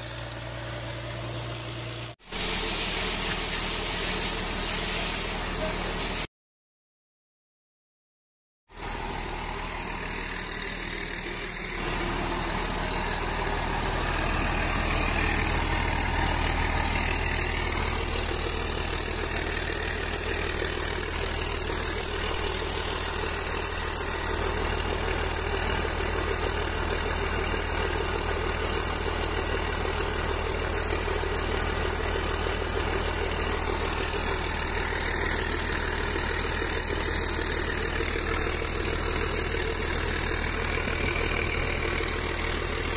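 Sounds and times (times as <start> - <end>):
diesel engine running steadily: 0.0 - 6.3, 8.7 - 42.9.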